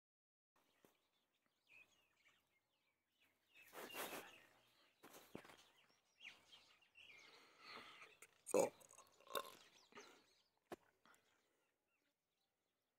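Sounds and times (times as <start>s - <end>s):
faint bird chirps: 0.6s - 12.3s.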